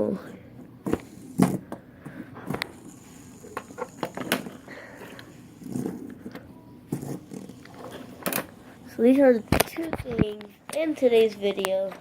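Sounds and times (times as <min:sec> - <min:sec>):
fidget spinner whirring: 0:00.8 - 0:01.7, 0:02.4 - 0:11.9.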